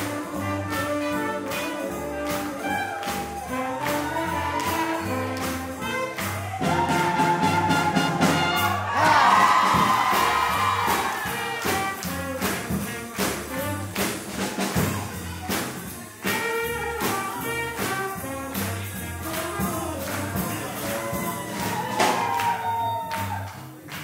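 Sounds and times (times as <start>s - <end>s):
steady drum beat: 0.0s - 23.4s
trumpet: 0.0s - 23.4s
double bass: 0.0s - 24.0s
swing jazz band playing: 0.0s - 24.0s.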